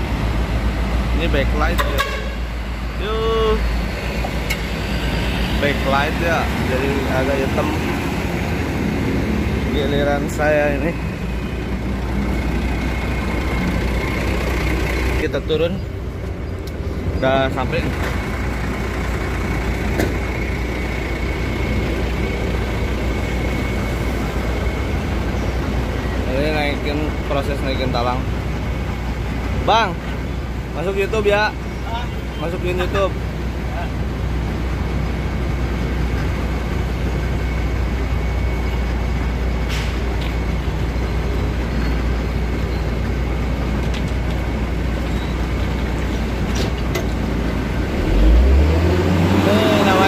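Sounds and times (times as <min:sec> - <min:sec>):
diesel engines rumbling: 0:00.0 - 0:50.0.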